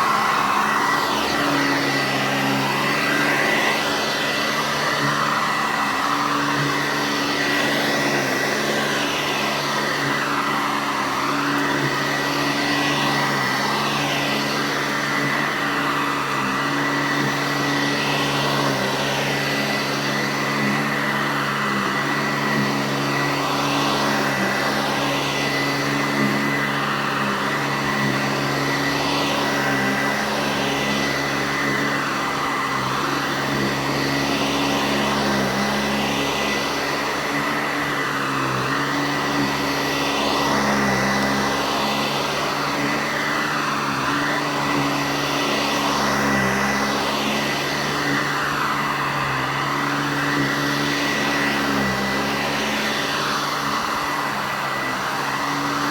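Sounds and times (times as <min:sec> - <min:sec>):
upright vacuum whining: 0:00.0 - 0:55.9.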